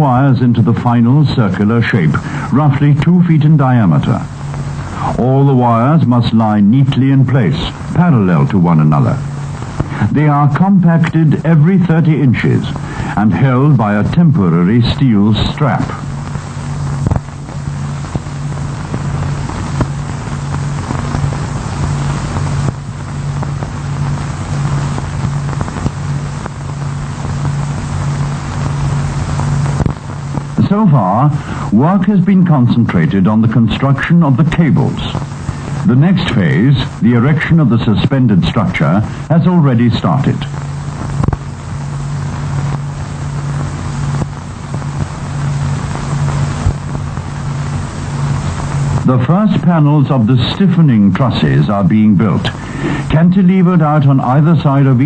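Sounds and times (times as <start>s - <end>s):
low mechanical engine drone: 0.0s - 55.0s
machinery humming with hiss: 0.0s - 55.0s.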